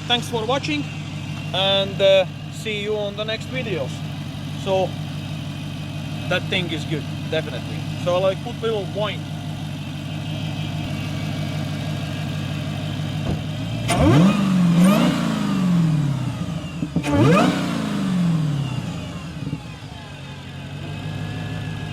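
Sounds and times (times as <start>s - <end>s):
car engine idling and revving: 0.0s - 21.9s
supercharger whine: 0.0s - 21.9s.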